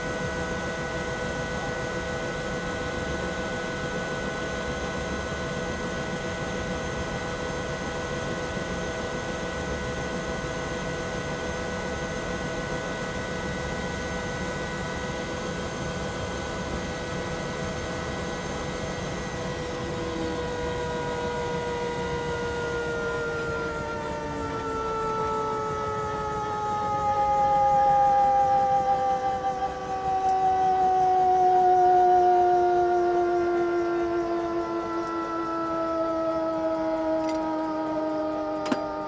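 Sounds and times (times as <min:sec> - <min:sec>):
helicopter turbine whine and rumble: 0:00.0 - 0:39.0.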